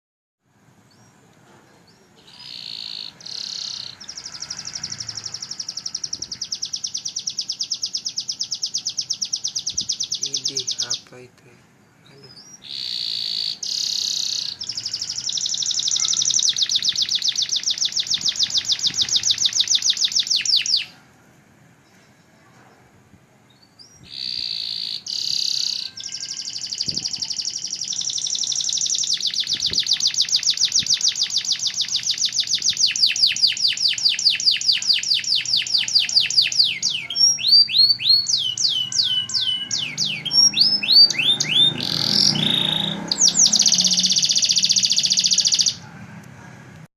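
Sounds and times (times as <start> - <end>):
canary trilling: 1.9 - 11.1, 11.8 - 21.0, 23.5 - 45.9.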